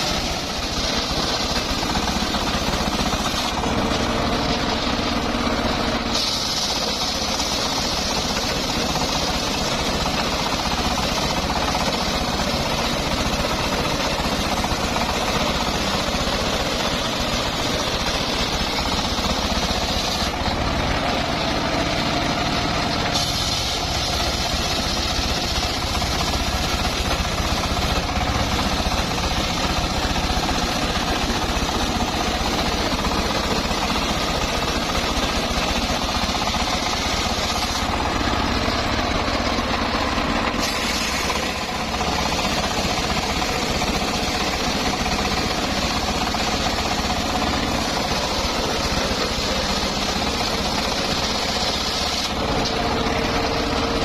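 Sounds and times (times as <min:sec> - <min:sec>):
sawmill engine and blade din: 0:00.0 - 0:54.0.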